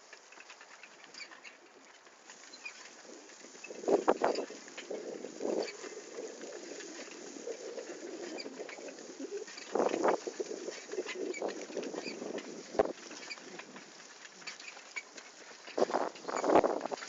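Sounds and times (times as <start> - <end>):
bicycle clattering over bumps: 0.0 - 17.0
bicycle tyres and rattle: 0.0 - 17.0.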